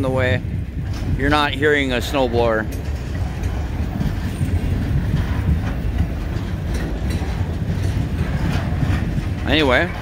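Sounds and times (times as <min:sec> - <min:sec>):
train wheels rumbling on rails: 0:00.0 - 0:10.0
wheel clacks: 0:00.0 - 0:10.0.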